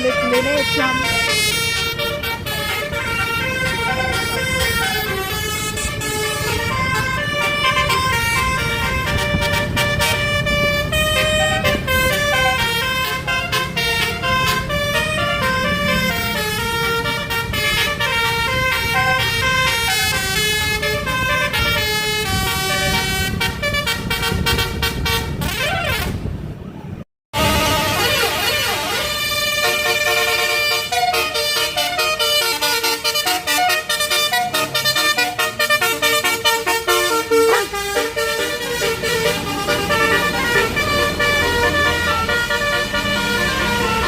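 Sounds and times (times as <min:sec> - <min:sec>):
musical bus horn tune: 0:00.0 - 0:26.3, 0:27.3 - 0:44.0
bus engine rumble: 0:00.0 - 0:44.0.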